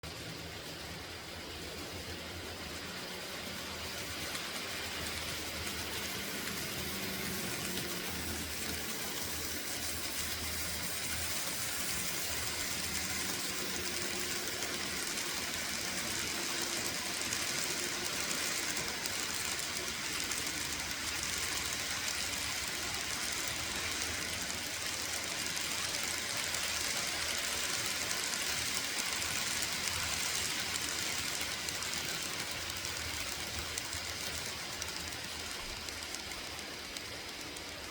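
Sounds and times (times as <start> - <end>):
model train wheels rolling on track: 0.0 - 37.9.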